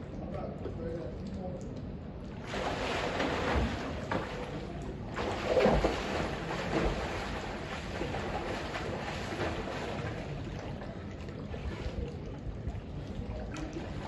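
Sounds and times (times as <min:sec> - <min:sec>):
water splashing in swimming pool: 0:01.1 - 0:14.0.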